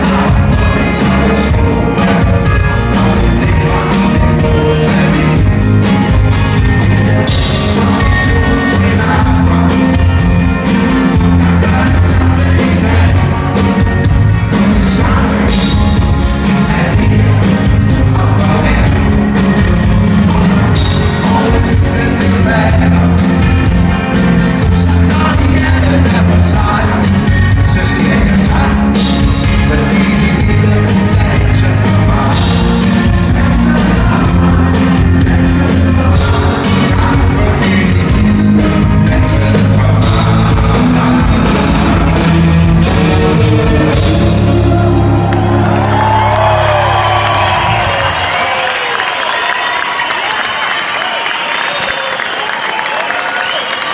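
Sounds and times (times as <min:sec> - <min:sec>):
lead vocal singing: 0:00.0 - 0:48.2
live rock band playing: 0:00.0 - 0:53.9.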